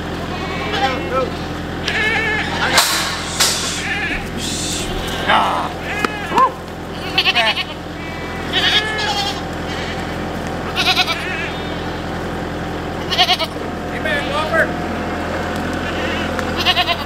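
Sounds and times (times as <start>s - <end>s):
goats bleating: 0.0s - 17.0s
tractor idling: 0.0s - 17.0s.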